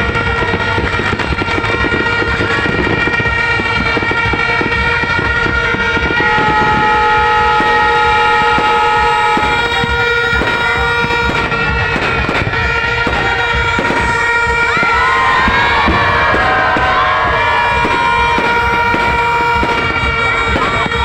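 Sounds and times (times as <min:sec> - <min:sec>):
fireworks banging and crackling: 0:00.0 - 0:21.0
horns blasting: 0:00.0 - 0:21.0.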